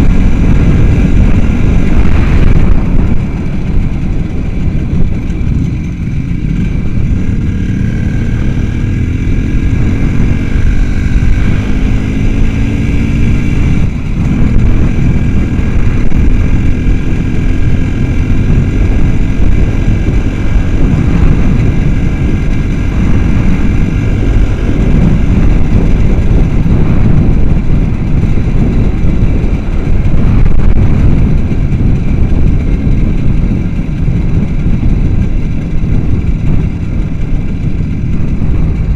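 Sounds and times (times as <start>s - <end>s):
small motorcycle engine running: 0.0s - 38.9s.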